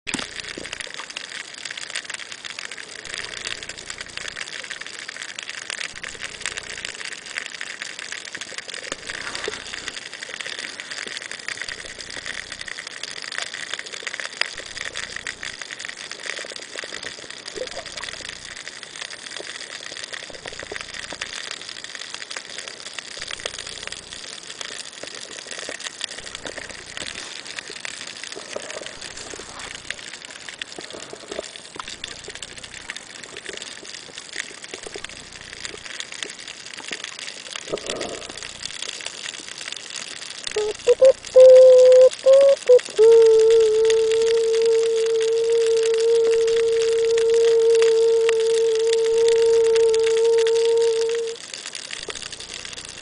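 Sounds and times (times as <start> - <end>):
low rumble of water movement: 0.1 - 53.0
underwater crackling hiss: 0.1 - 53.0.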